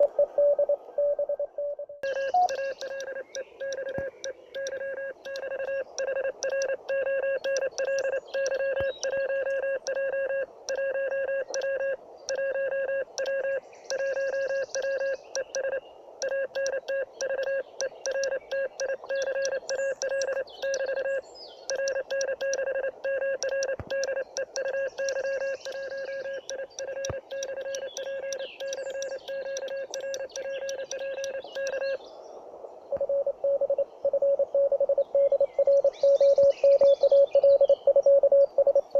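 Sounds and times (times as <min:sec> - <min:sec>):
morse code beeps: 0:00.0 - 0:32.0, 0:32.9 - 0:38.9.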